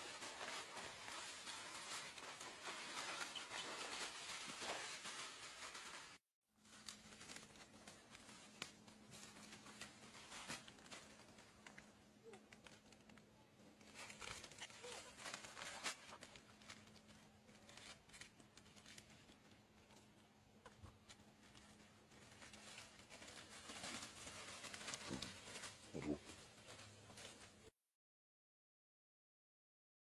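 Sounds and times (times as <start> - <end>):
faint rustling and crinkling: 0.0 - 27.7.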